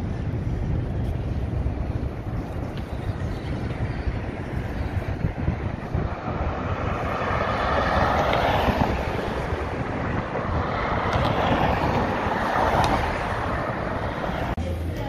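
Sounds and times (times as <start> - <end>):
wind on microphone: 0.0 - 14.6
street traffic: 0.0 - 15.0.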